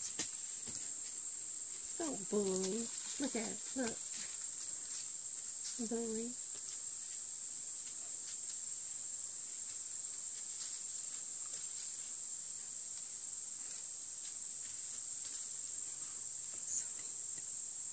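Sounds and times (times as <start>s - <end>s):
crickets trilling: 0.0s - 17.9s.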